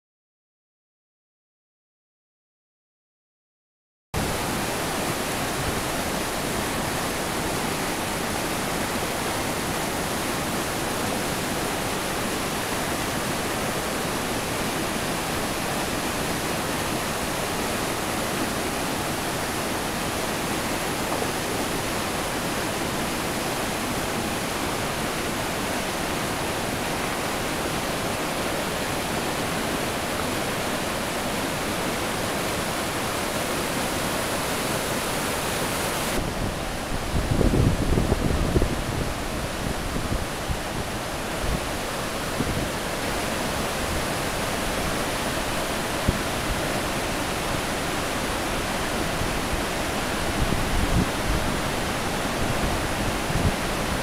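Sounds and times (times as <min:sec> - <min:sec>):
waterfall roar: 0:04.2 - 0:54.0
white-water river: 0:04.2 - 0:54.0.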